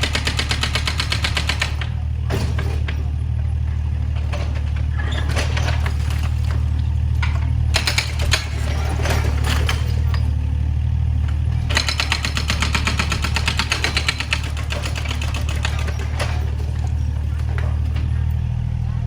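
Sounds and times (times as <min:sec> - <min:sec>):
excavator diesel engine: 0:00.0 - 0:19.0
metal and debris clattering: 0:00.6 - 0:18.7.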